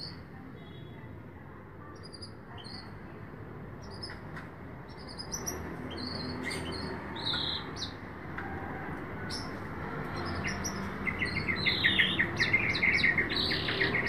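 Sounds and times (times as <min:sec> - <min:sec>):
small birds chirping: 0:00.0 - 0:01.0, 0:01.9 - 0:03.0, 0:03.7 - 0:08.1, 0:09.3 - 0:14.0.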